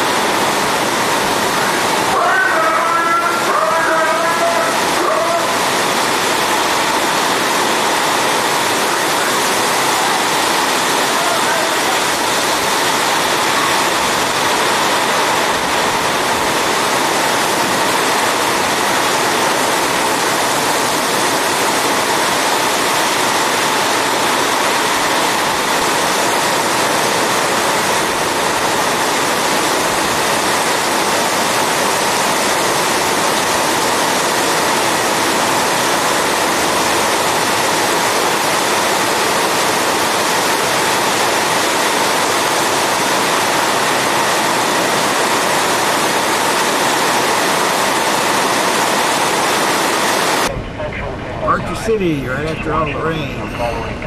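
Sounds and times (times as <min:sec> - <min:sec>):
torrential rain on pavement: 0:00.0 - 0:50.5.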